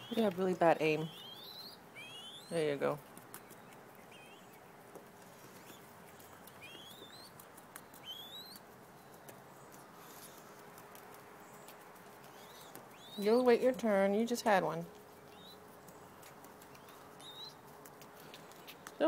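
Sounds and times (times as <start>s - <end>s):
dove squabs peeping: 0.0s - 19.0s.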